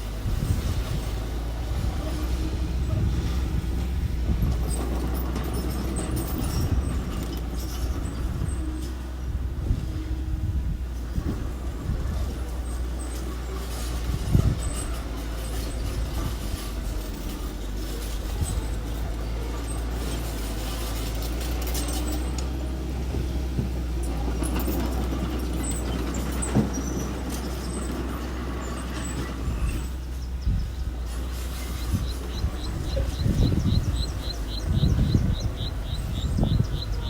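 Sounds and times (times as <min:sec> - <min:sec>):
earthmoving machine engine running: 0:00.0 - 0:37.0.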